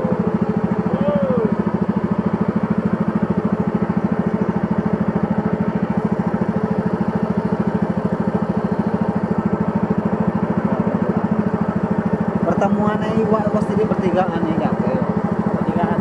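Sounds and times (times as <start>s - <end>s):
boat engine puttering: 0.0s - 16.0s.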